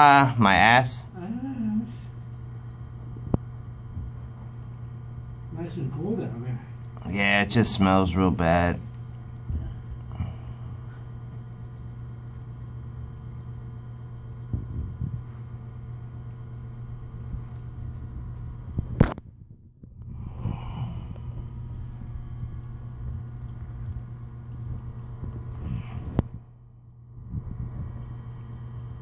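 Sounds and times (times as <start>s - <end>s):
electric pump humming: 0.0s - 29.0s.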